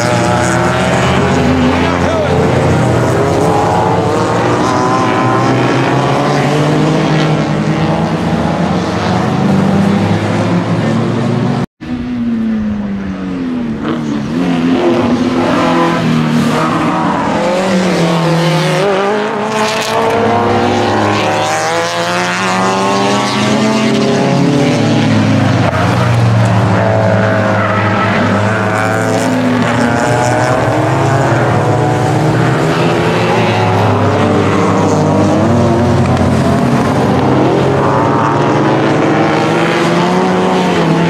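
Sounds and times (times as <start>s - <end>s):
race cars passing: 0.0s - 41.0s.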